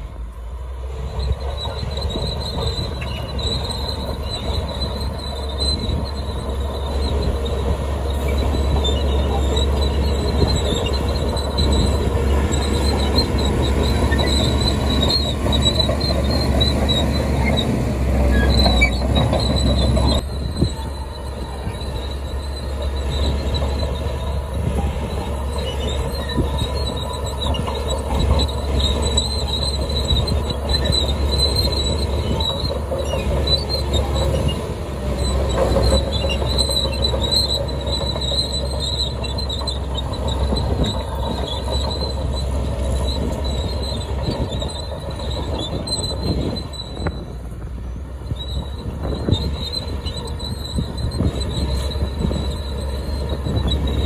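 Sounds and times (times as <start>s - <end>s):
diesel engine running: 0.0s - 54.0s
steel tracks squealing and clanking: 0.0s - 54.0s.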